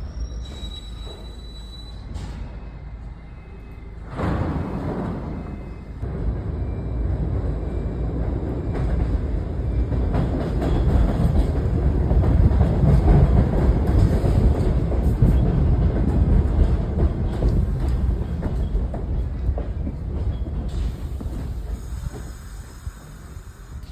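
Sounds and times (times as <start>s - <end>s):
subway train rumbling on rails: 0.0s - 23.9s.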